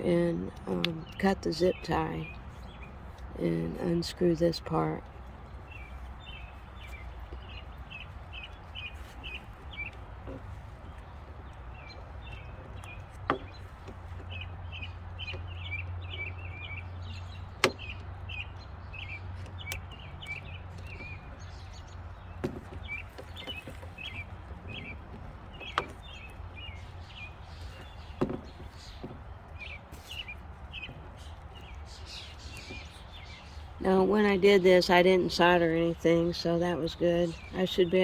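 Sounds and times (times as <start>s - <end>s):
small bird chirping: 0.0s - 38.0s.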